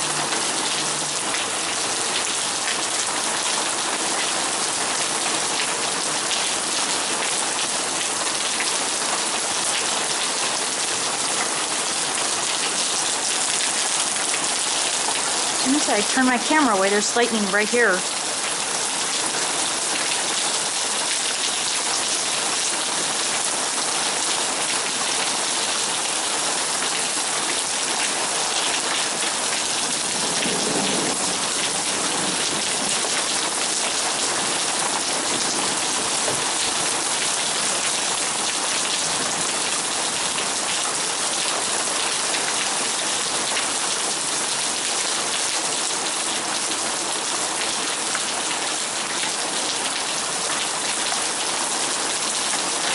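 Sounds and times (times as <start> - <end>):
heavy rain on hard surfaces: 0.0 - 52.9.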